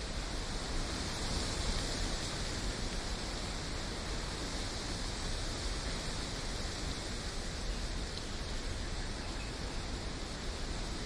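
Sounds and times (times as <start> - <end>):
wind through rustling trees: 0.0 - 11.0.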